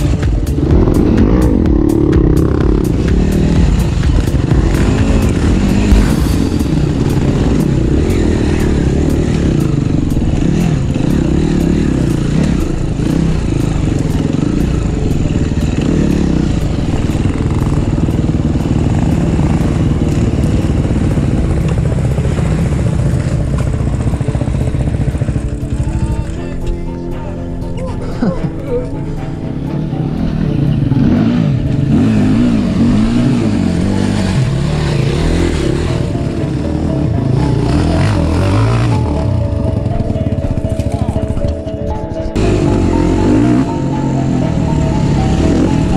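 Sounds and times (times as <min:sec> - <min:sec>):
dirt bike engine revving: 0:00.0 - 0:26.1, 0:29.0 - 0:41.3, 0:42.4 - 0:45.9.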